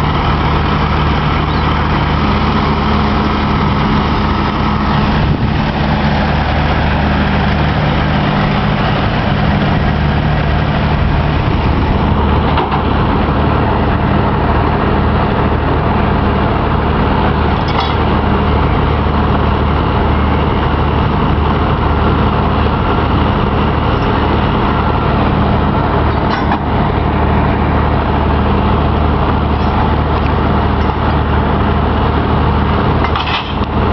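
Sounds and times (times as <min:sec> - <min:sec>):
heavy truck diesel engines idling: 0:00.0 - 0:33.9.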